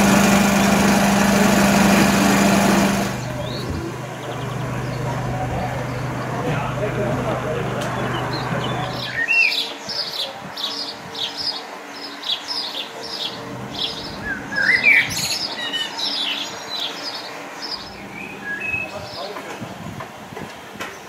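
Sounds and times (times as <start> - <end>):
small birds chirping and singing: 0.0 - 21.0.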